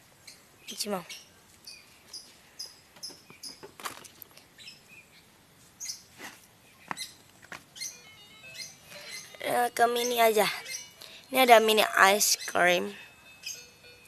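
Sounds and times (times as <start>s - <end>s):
small birds chirping: 0.2s - 13.8s.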